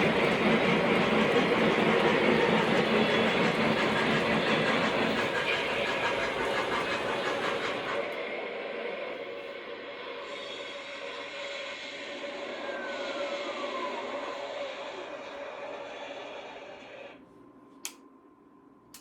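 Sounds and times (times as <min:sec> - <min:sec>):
model train rumbling on track: 0:00.0 - 0:17.2.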